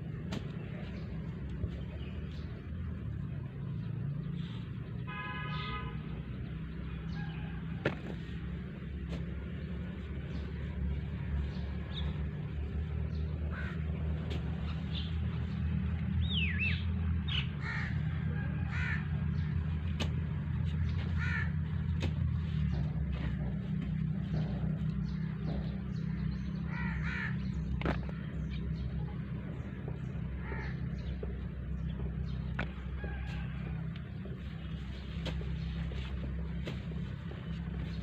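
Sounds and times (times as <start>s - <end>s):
birds calling: 0.0s - 38.0s.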